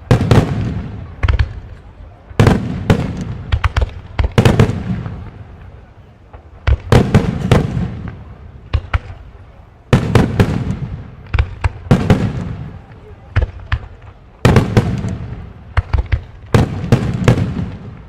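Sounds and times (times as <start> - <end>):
fireworks bursting with loud bangs: 0.0 - 18.0.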